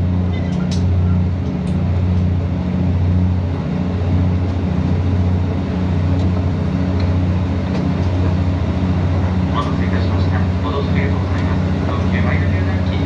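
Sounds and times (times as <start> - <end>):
railcar diesel engine humming: 0.0 - 13.0
train rumble: 0.0 - 13.0.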